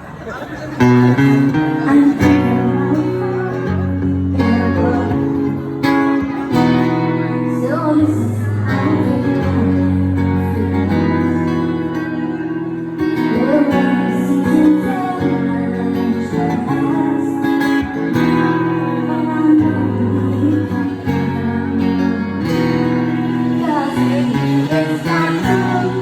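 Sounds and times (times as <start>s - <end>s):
acoustic guitar strumming: 0.7s - 26.0s
woman singing: 1.5s - 26.0s.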